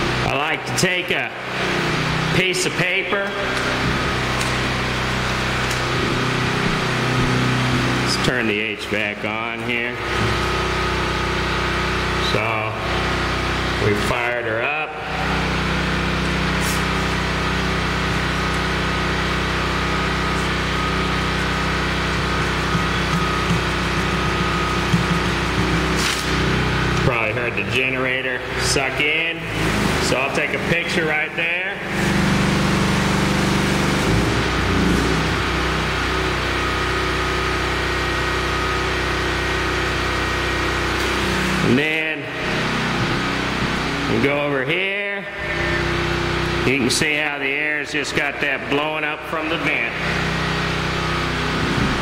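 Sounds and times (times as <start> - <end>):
generator engine running: 0.0 - 52.0.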